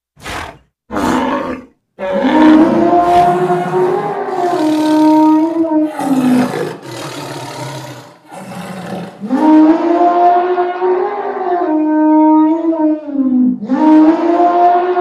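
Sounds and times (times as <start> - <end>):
animal roars and calls: 0.2 - 15.0.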